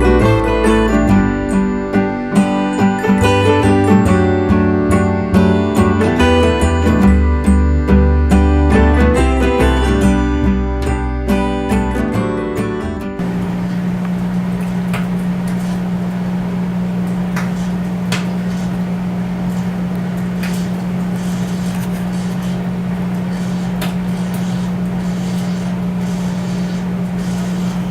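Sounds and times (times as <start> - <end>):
microwave oven humming: 0.0 - 12.1, 13.2 - 27.9.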